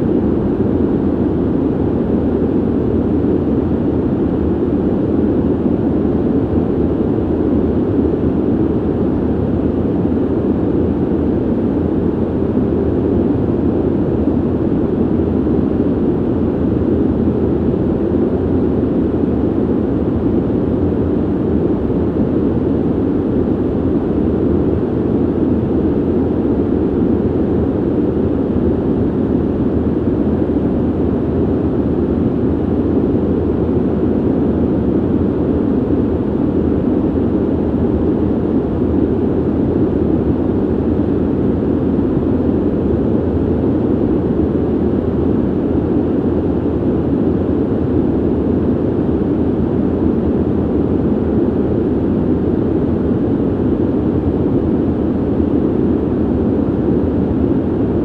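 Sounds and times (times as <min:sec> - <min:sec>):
ventilation air rushing: 0:00.0 - 0:58.0.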